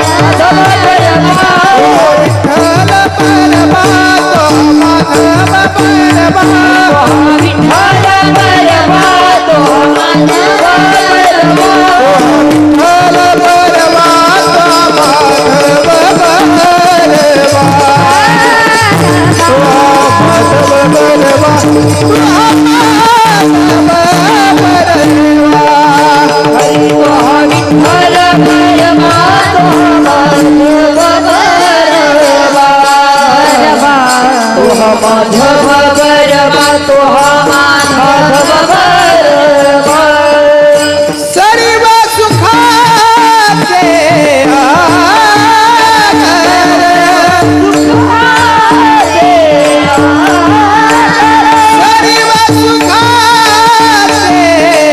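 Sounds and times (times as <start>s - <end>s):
rhythmic drumming: 0.0s - 54.9s.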